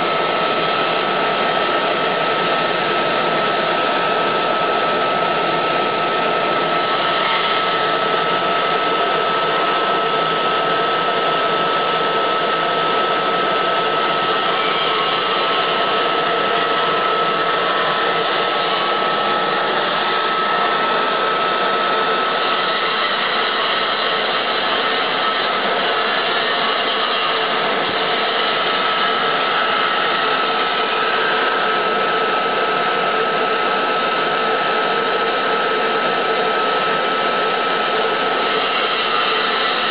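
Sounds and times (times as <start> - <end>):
blower rush with high whine: 0.0 - 39.9.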